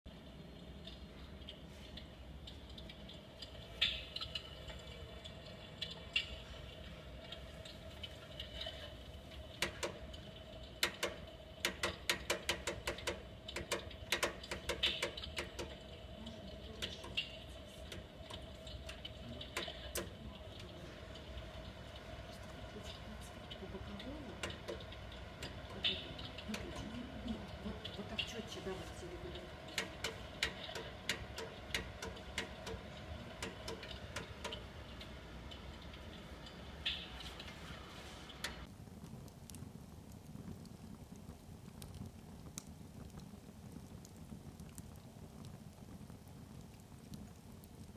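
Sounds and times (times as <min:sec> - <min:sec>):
crackling fire sound effect: 0:00.1 - 0:47.9
faint steady hum: 0:00.1 - 0:47.9.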